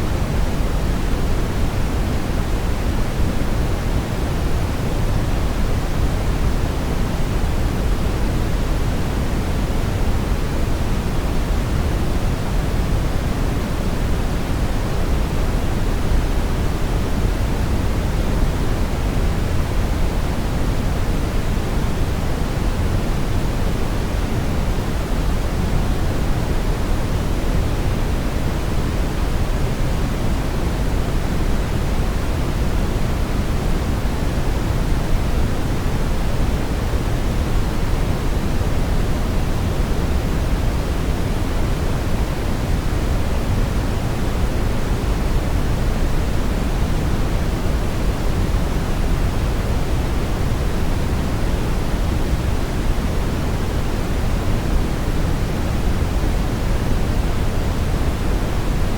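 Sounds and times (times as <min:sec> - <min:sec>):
brown noise hiss: 0:00.0 - 0:58.9.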